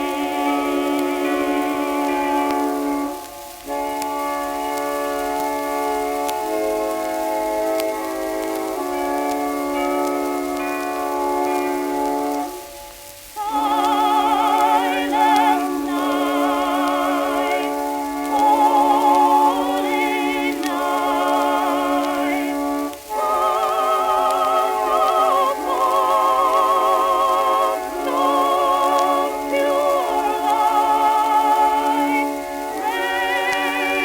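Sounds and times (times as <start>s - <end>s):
old phonograph instrumental melody: 0.0s - 34.0s.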